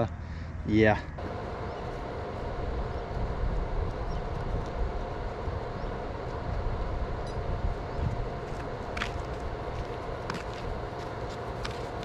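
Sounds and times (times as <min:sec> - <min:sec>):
faint steady whine: 0:00.0 - 0:12.0
wind rumbling on microphone: 0:01.2 - 0:12.0.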